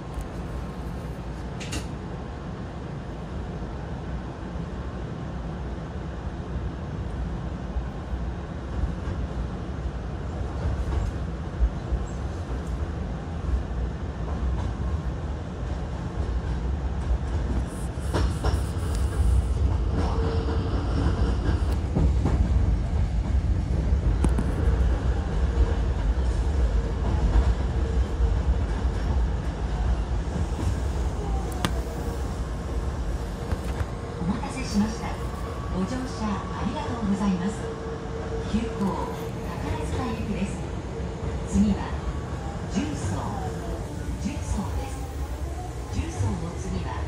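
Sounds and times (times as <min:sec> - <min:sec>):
train wheels rumbling on rails: 0:00.0 - 0:03.5, 0:04.5 - 0:47.0.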